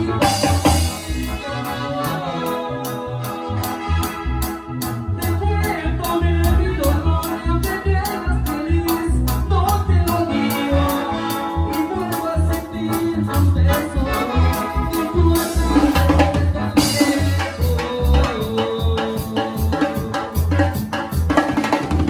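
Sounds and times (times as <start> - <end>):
steady bass beat: 0.0 - 1.8, 3.2 - 21.6
latin band music: 0.0 - 22.0.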